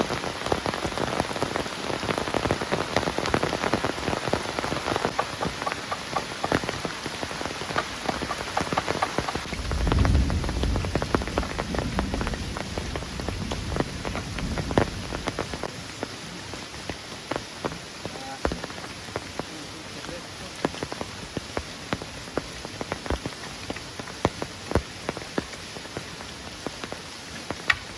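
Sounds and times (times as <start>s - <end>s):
heavy rain falling: 0.0s - 27.9s
raindrops striking a surface: 0.0s - 27.9s.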